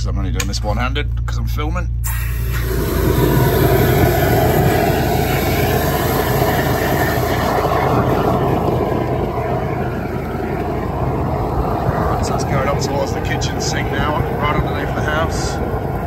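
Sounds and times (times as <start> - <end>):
drain jetter engine drone: 0.0 - 16.0.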